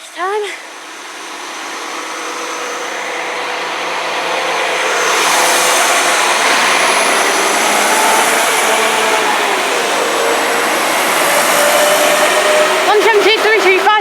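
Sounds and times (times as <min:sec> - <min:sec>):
train running past on rails: 0:00.0 - 0:14.0.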